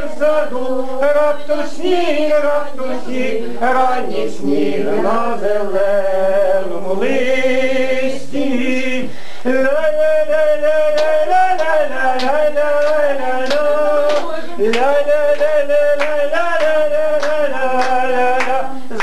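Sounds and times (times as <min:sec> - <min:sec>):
group singing: 0:00.0 - 0:19.0
man singing: 0:00.0 - 0:19.0.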